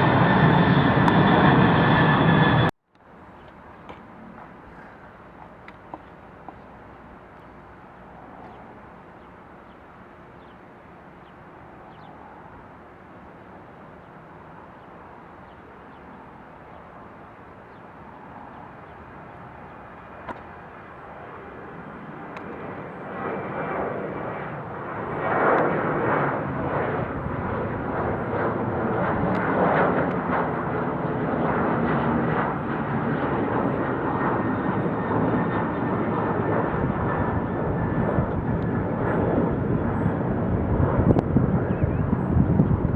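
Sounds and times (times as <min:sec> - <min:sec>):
airliner engines roaring: 0:00.0 - 0:42.9.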